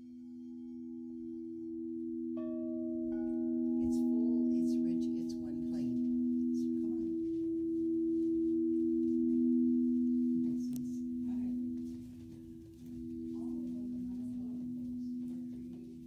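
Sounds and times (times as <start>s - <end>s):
crystal singing bowls ringing: 0.0s - 16.0s.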